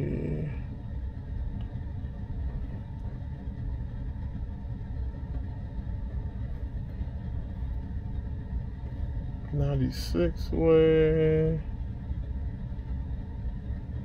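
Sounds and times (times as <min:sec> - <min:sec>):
low rumble inside car cabin: 0:00.0 - 0:14.0.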